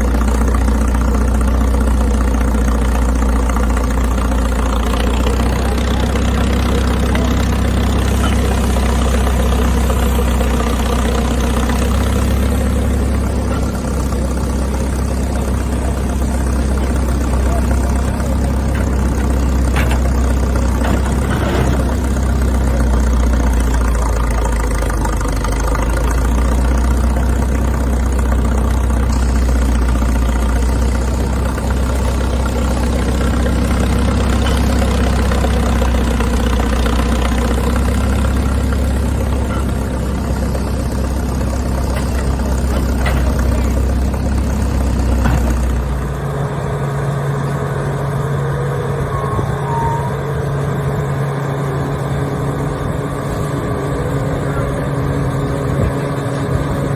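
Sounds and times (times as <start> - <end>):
large engine idling: 0.0 - 56.9.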